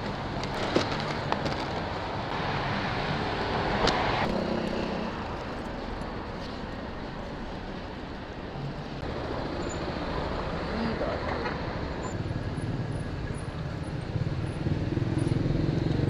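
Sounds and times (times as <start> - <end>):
steady road hum: 0.0 - 16.0.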